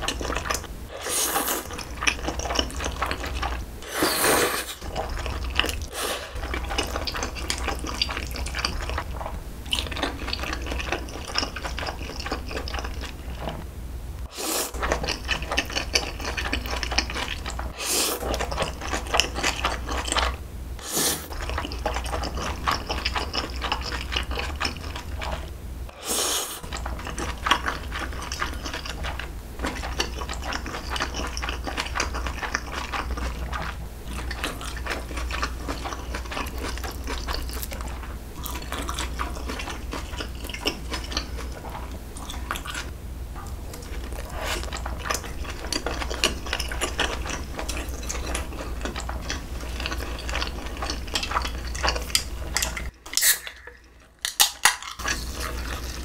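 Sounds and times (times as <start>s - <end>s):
wet chewing and mouth clicks: 0.0s - 3.7s, 4.5s - 13.7s, 14.6s - 20.4s, 21.2s - 25.6s, 26.5s - 56.0s.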